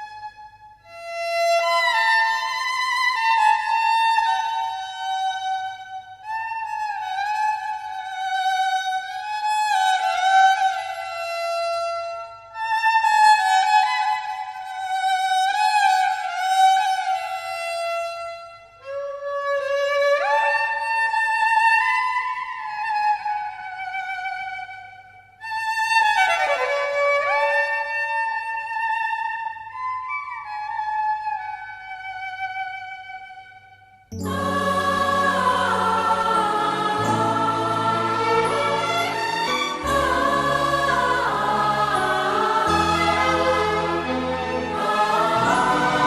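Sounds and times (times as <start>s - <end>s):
solo violin slow melody: 0.0s - 29.2s, 29.8s - 46.0s.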